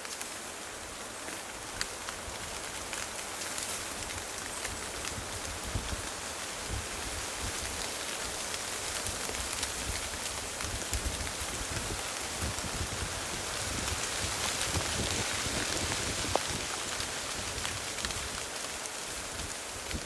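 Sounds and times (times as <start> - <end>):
rain pattering on vegetation: 0.0 - 20.0.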